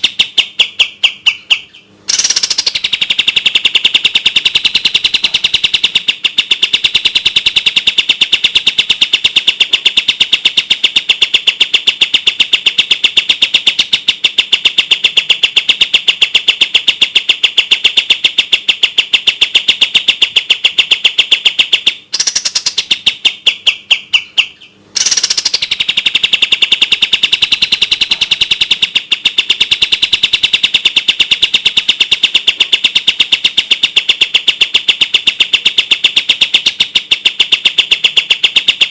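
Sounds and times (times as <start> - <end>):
bird singing fast trill: 0.0 - 35.0.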